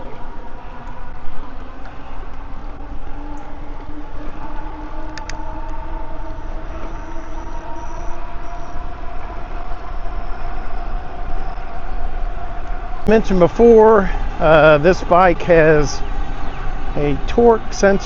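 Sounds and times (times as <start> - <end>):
tires rolling: 0.0 - 18.0.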